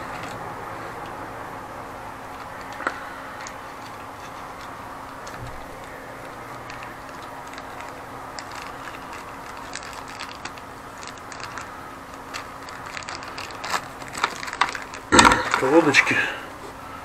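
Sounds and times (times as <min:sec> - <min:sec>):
plastic packaging crinkling: 0:00.0 - 0:01.2, 0:02.2 - 0:16.8
low background hum: 0:00.0 - 0:17.0.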